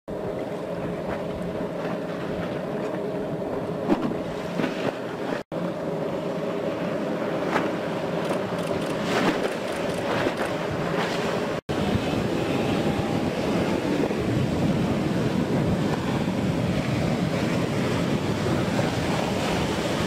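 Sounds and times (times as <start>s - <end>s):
hull slapping water: 0.1s - 5.4s, 6.7s - 20.0s
motorboat engines running: 0.1s - 20.0s.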